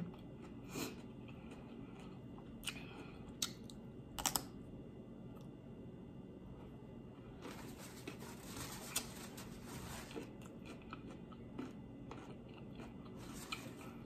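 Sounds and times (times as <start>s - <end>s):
quiet chewing: 0.0s - 4.4s, 6.5s - 14.0s.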